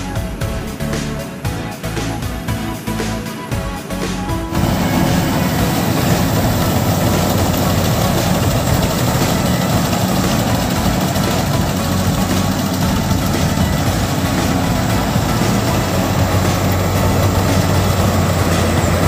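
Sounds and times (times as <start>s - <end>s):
combine harvester running: 0.0s - 19.0s.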